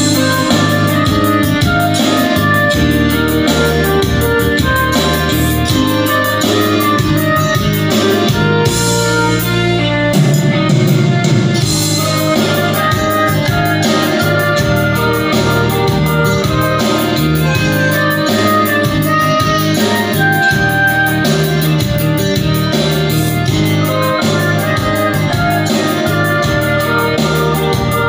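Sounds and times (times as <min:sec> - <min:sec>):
band music with guitar and drums: 0:00.0 - 0:28.0.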